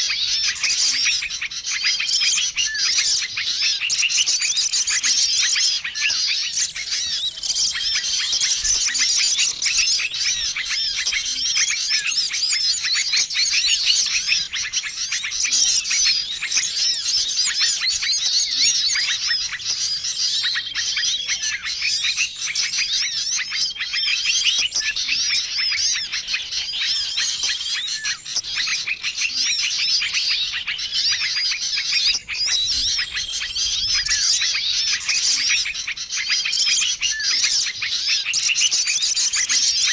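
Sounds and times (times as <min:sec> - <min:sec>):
bird trill: 0:00.0 - 0:39.9
songbirds chirping: 0:00.0 - 0:39.9.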